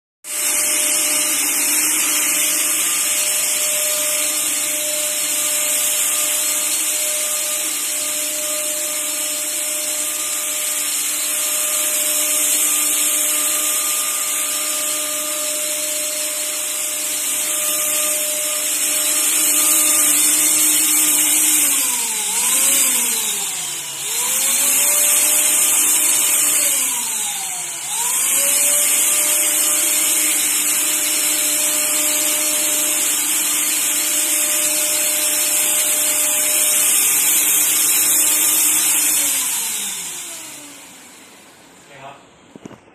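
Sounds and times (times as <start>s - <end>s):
fogger blower motor whining: 0.2s - 42.9s.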